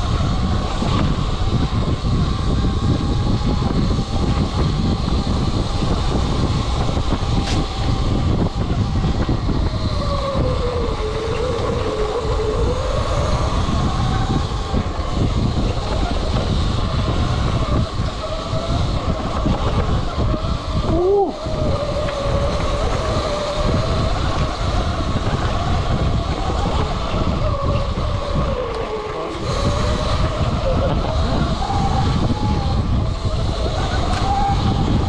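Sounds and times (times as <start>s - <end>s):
electric motor whine: 0.0s - 35.0s
tyre and wind rumble: 0.0s - 35.0s.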